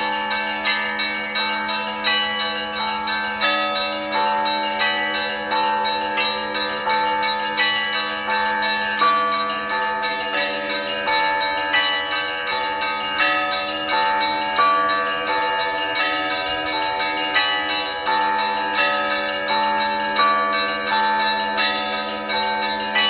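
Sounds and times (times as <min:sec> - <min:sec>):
large bell humming: 0:00.0 - 0:23.0
small high bells chiming: 0:00.0 - 0:23.0.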